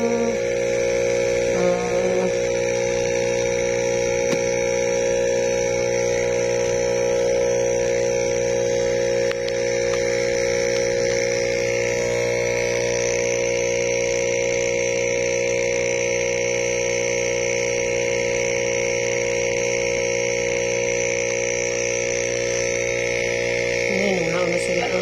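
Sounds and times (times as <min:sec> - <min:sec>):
air pump humming: 0:00.0 - 0:25.0.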